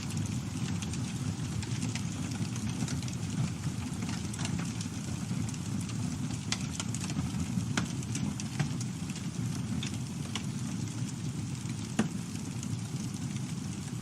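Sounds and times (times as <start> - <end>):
campfire flames rumbling: 0.0 - 14.0
wood crackling and popping: 0.0 - 14.0.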